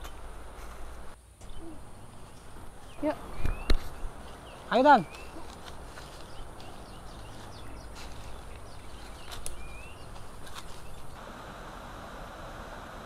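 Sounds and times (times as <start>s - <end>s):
bamboo grove hush: 0.0s - 13.0s.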